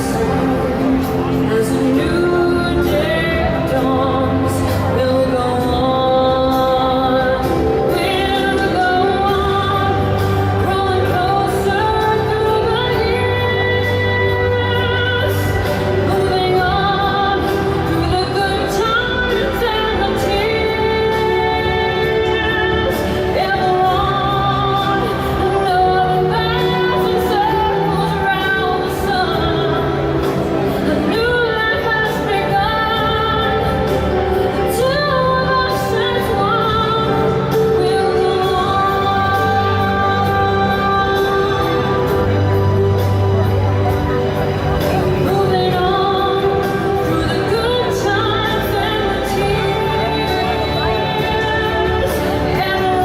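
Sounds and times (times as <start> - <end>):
woman singing: 0.0 - 53.0.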